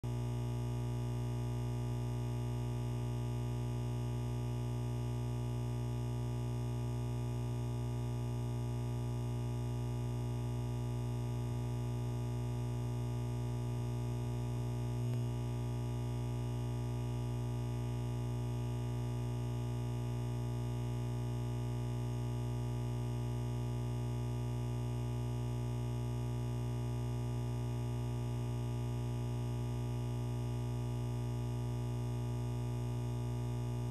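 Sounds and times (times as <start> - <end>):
steady electronic hum: 0.1 - 33.9.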